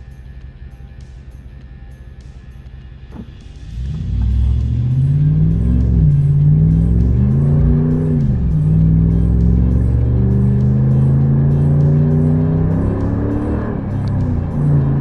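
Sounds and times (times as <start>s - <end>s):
truck engine at full throttle: 0.0s - 15.0s.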